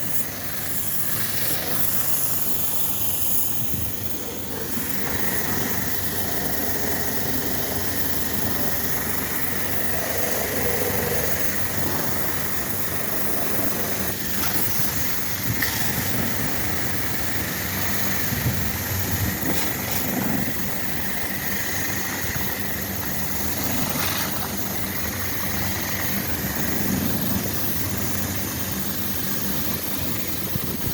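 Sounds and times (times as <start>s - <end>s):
air conditioner humming: 0.0s - 30.9s.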